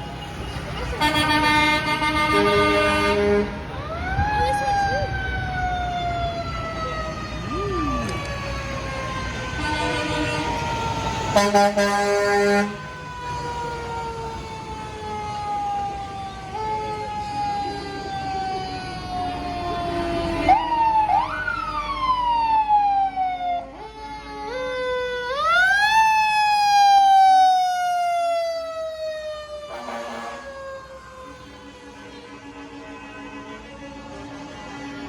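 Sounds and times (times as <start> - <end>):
fire truck siren wailing: 0.0 - 35.0.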